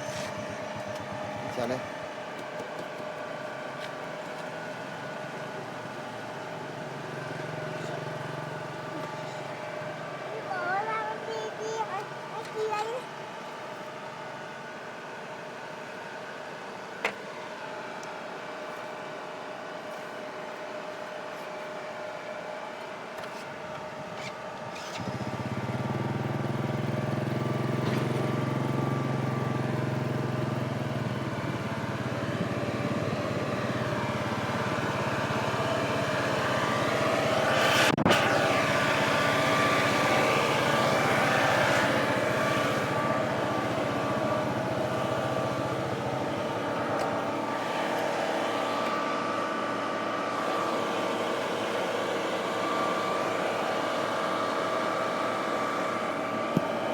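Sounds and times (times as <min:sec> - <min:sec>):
engine running steadily: 0:00.0 - 0:56.9.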